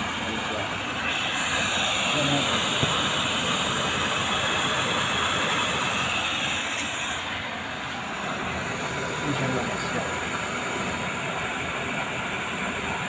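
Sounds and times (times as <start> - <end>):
oil burner stove roaring: 0.0 - 13.0.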